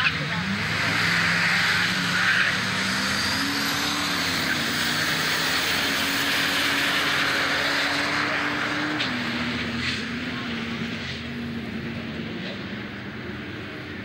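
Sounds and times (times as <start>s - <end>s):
car engine at full throttle: 0.0s - 14.0s.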